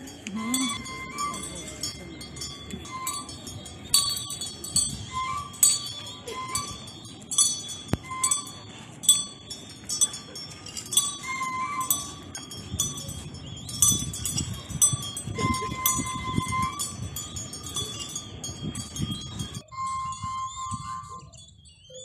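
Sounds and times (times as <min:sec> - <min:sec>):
metal bells struck: 0:00.0 - 0:21.3.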